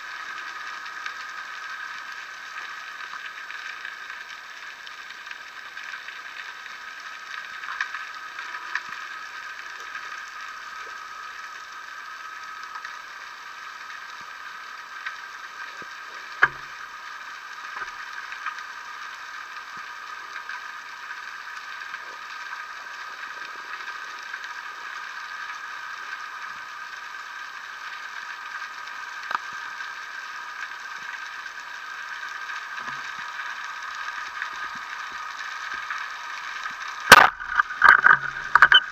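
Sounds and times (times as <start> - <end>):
steady underwater hiss: 0.0 - 38.9
sharp clicks and crackles: 0.1 - 38.9.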